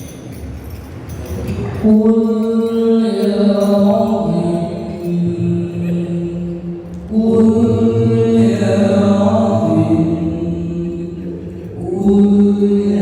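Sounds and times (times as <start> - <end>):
person chanting over sound system: 1.5 - 13.0.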